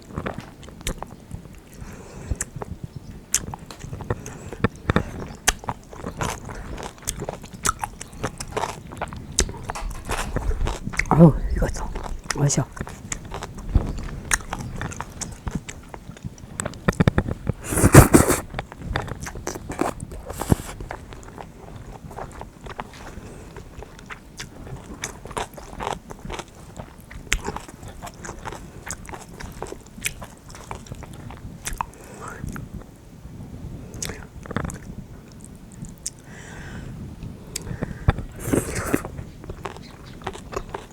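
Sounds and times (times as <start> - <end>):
person chewing food: 0.1 - 11.1, 11.8 - 18.4, 19.1 - 32.0, 37.5 - 40.9.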